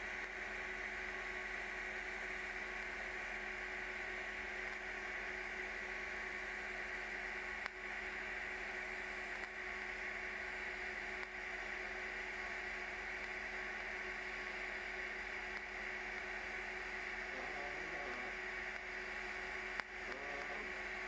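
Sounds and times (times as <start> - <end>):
low electrical hum: 0.0 - 21.0
steady hiss: 0.0 - 21.0.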